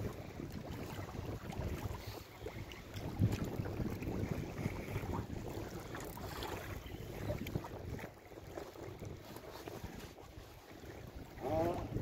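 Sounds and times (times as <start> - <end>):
water slapping against metal hull: 0.0 - 12.0
wind buffeting microphone: 0.0 - 12.0.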